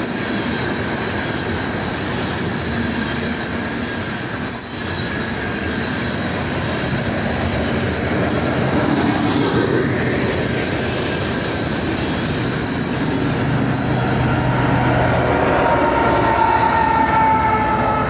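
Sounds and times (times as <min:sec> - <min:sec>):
locomotive engine drone: 0:00.0 - 0:18.0
train cars rolling on rails: 0:00.0 - 0:18.0.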